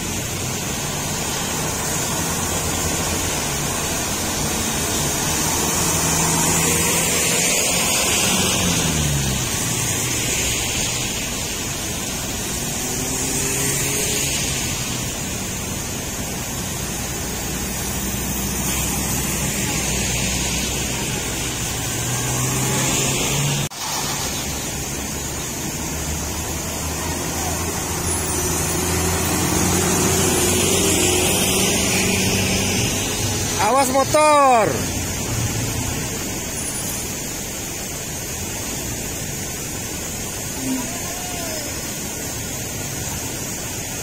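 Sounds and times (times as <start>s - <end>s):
cars passing slowly: 0.0s - 44.0s
steady hiss: 0.0s - 44.0s.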